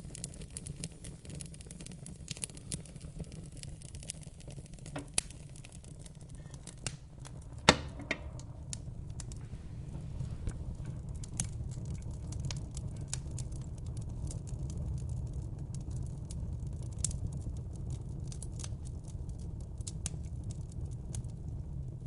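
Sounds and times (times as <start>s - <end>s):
fire crackling pops: 0.0s - 22.0s
fire flames rumbling: 0.0s - 22.0s.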